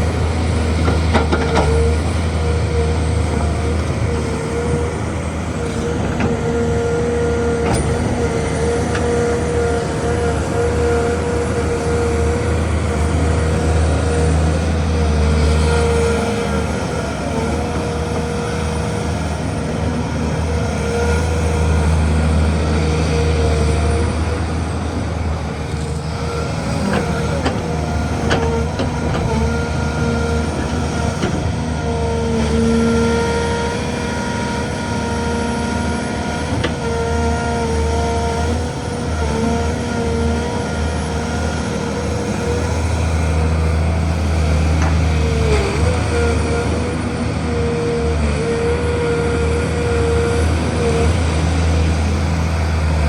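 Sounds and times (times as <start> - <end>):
excavator diesel engine drone: 0.0 - 53.0
hydraulic whine: 0.0 - 53.0.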